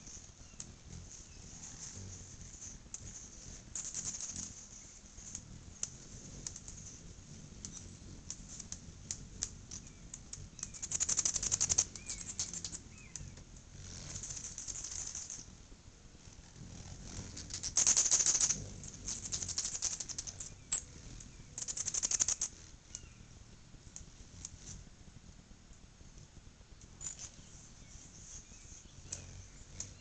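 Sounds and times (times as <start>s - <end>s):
thin bird chirps: 0.0s - 15.6s, 16.8s - 23.4s, 26.8s - 30.0s
hummingbird wings buzzing: 0.0s - 30.0s.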